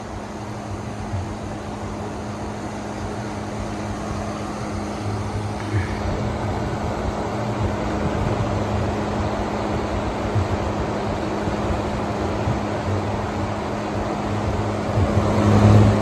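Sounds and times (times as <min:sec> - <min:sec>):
air conditioner running: 0:00.0 - 0:16.0.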